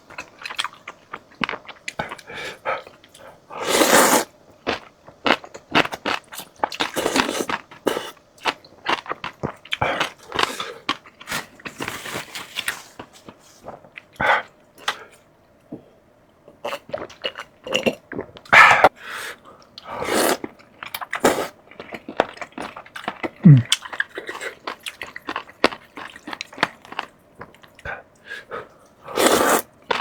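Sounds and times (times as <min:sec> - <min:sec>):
crunchy food being chewed: 0:00.0 - 0:15.2, 0:16.5 - 0:18.9, 0:19.5 - 0:30.0.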